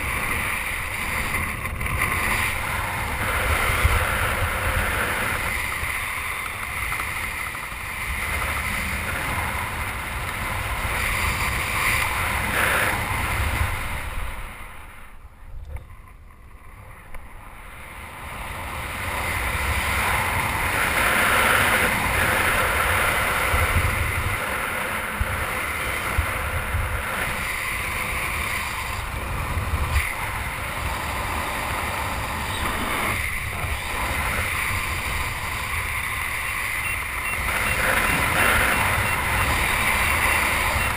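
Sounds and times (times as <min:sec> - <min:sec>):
wind rushing over microphone: 0:00.0 - 0:16.1, 0:16.7 - 0:40.9.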